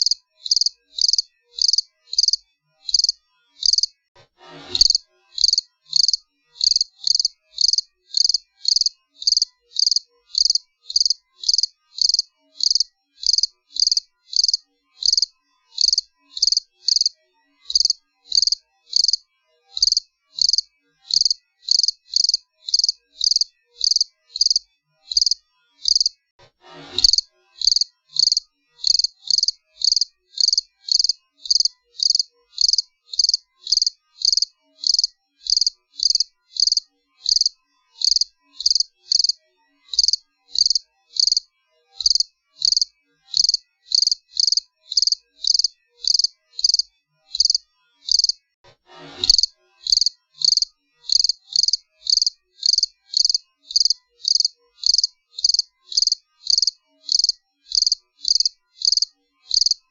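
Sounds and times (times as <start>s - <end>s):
cricket chirping: 0.0s - 3.9s, 4.9s - 17.1s, 17.7s - 19.2s, 19.8s - 26.1s, 27.0s - 41.4s, 42.0s - 48.4s, 49.3s - 59.8s.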